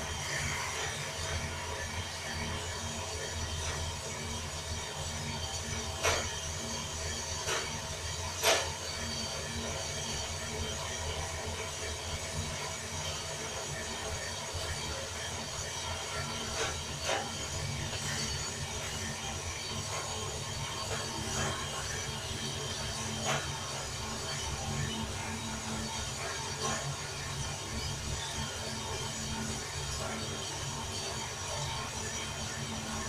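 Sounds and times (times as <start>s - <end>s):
coffee roaster humming: 0.0s - 33.0s.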